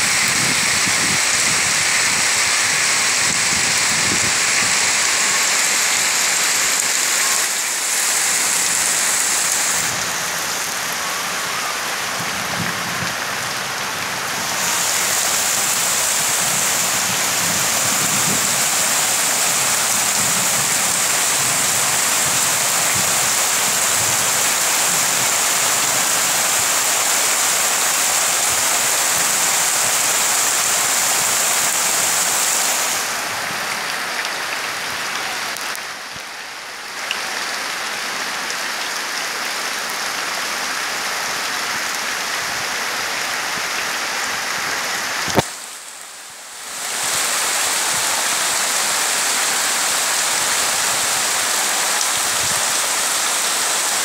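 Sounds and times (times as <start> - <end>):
heavy rain on leaves and ground: 0.0 - 54.0.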